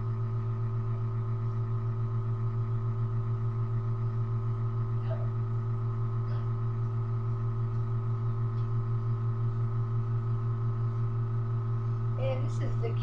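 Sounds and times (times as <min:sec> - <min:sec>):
low hum with overtones: 0:00.0 - 0:13.0.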